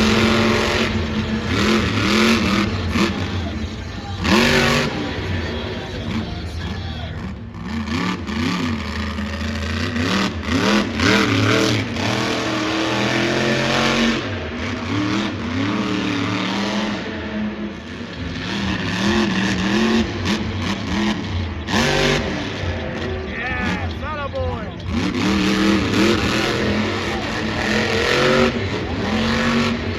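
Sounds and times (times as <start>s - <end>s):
truck engine revving: 0.0s - 29.9s.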